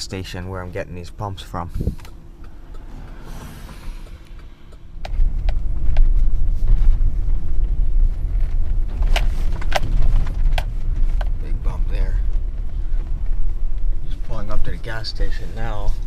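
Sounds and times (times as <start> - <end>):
truck road rumble: 0.0 - 16.0.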